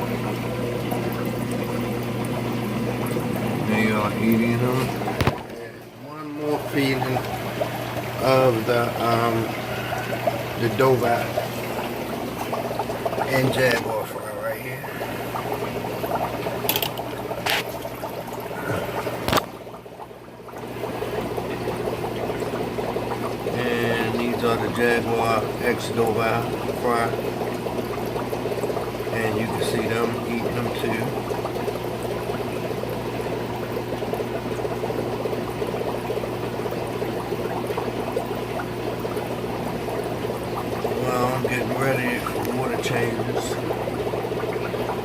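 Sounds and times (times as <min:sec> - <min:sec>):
aquarium water trickling and bubbling: 0:00.0 - 0:45.0
low steady hum: 0:00.0 - 0:45.0.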